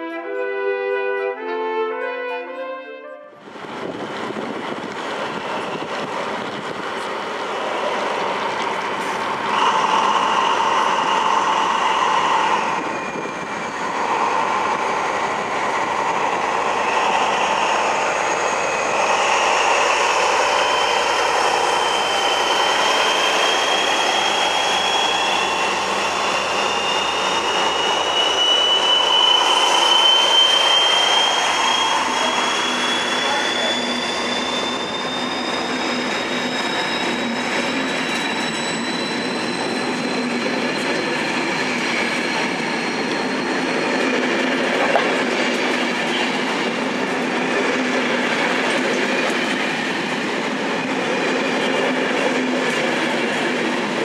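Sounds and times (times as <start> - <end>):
train running along track: 0.0 - 54.0
wheels squealing: 9.1 - 53.9.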